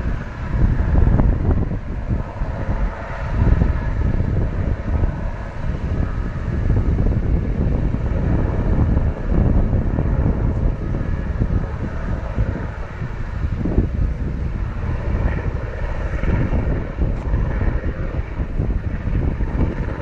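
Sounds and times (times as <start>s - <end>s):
helicopter rotor and engine: 0.0s - 20.0s
wind buffeting microphone: 0.0s - 20.0s.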